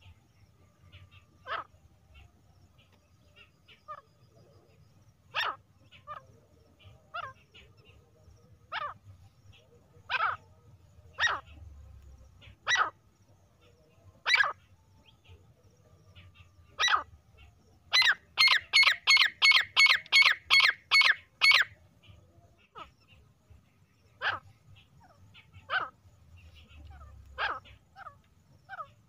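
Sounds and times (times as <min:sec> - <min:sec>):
francolin calling: 0:00.0 - 0:29.0.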